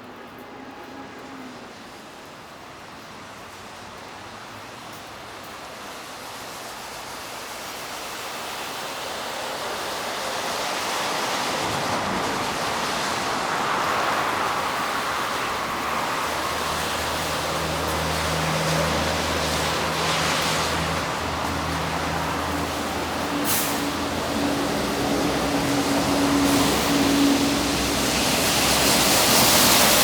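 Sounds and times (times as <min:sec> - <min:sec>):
tyres hissing on wet street: 0:00.0 - 0:30.0.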